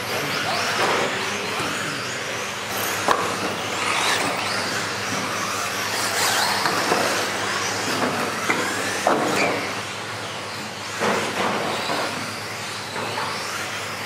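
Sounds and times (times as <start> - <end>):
toy car motors whining: 0.0 - 14.0.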